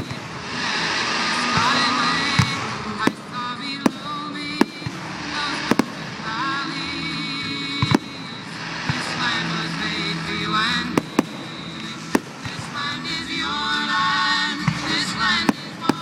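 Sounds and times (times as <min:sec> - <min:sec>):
fireworks bangs: 0:00.0 - 0:16.0
music playing: 0:00.0 - 0:16.0.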